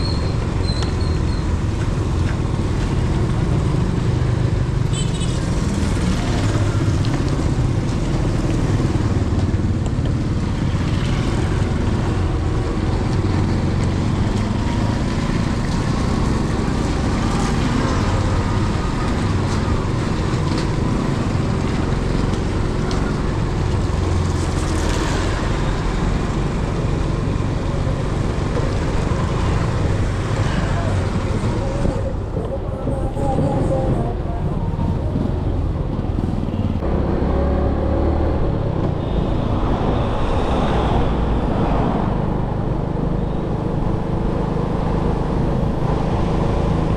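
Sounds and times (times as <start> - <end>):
road noise: 0.0 - 46.9
vehicle engine hum: 0.0 - 46.9.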